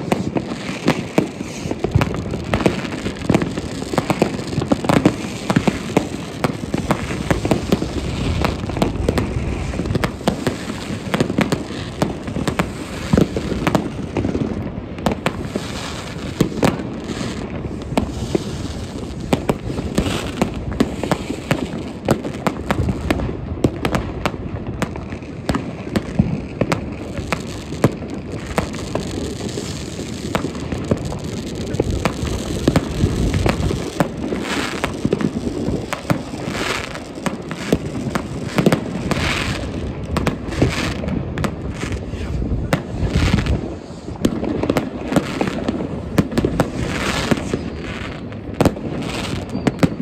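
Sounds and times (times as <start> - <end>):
fireworks banging and crackling: 0.0 - 50.0.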